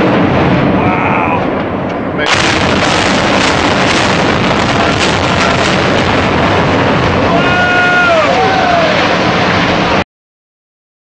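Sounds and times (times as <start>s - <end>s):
rattle of demolition blasts: 0.0s - 10.0s
sharp explosive cracks: 0.0s - 10.0s.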